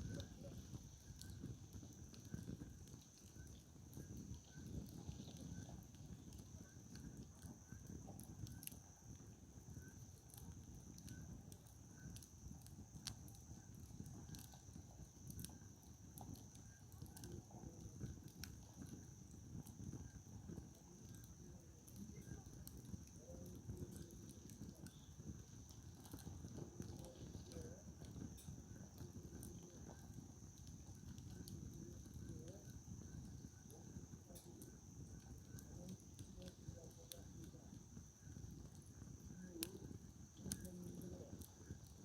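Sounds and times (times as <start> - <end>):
campfire crackling and popping: 0.0 - 42.0.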